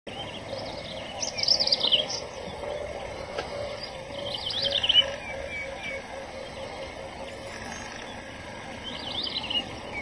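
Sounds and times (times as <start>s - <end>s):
songbird warbling chirps: 0.1s - 10.0s.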